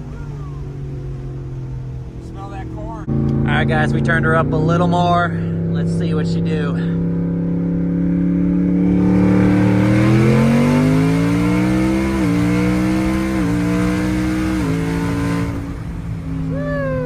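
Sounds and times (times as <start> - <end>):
truck engine accelerating: 0.0 - 17.0.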